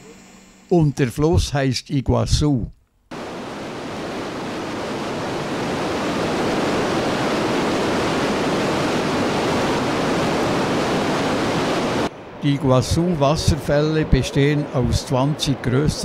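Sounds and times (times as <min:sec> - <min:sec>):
waterfall roaring: 0:03.1 - 0:16.0.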